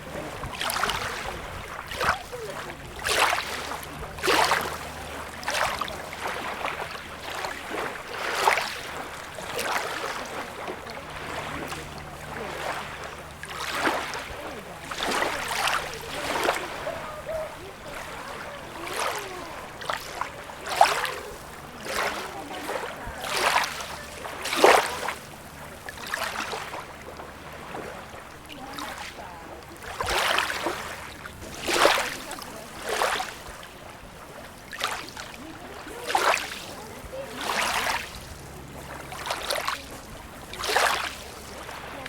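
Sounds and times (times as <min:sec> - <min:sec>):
small waves lapping at shore: 0:00.0 - 0:42.0.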